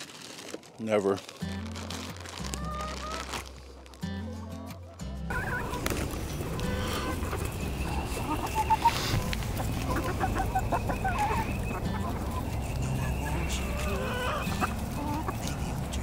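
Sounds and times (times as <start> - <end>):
chickens clucking: 2.4 - 16.0.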